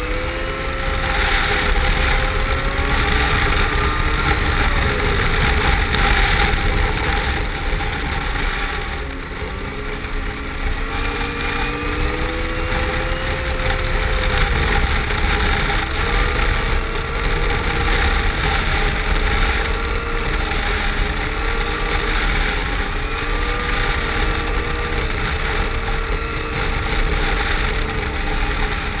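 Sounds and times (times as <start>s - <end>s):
snowmobile engine running: 0.0s - 29.0s
steady rushing noise: 0.0s - 29.0s.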